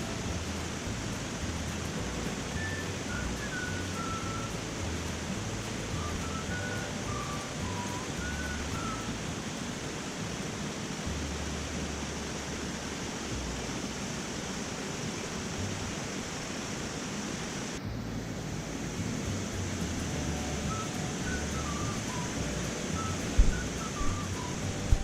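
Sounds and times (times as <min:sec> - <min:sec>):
mountain stream flowing: 0:00.0 - 0:25.0.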